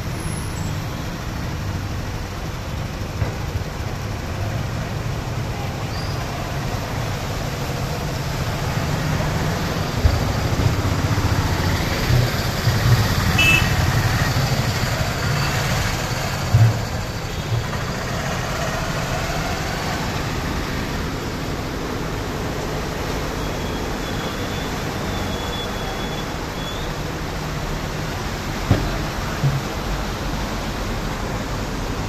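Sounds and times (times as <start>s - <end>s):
traffic engines running: 0.0s - 32.0s.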